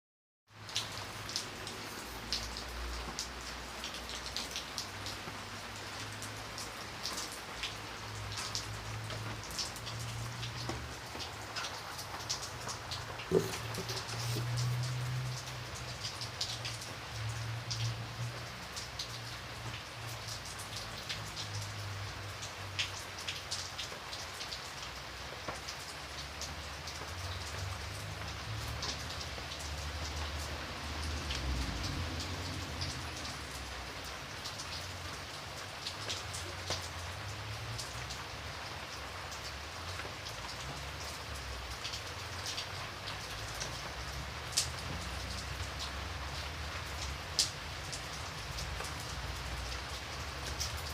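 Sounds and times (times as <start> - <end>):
steady rain falling: 0.5 - 50.9.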